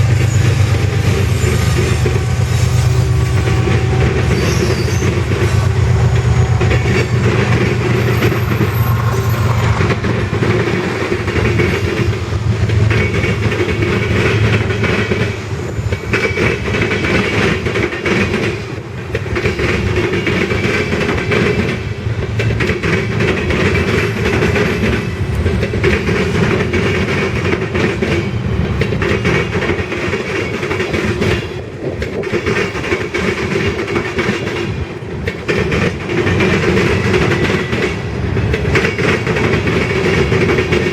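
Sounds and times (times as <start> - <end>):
train wheels clacking on rails: 0.0 - 40.9.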